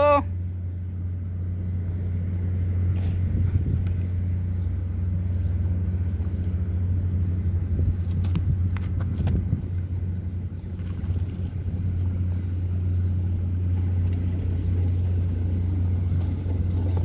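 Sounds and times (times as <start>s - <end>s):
low mechanical motor hum: 0.0s - 17.0s.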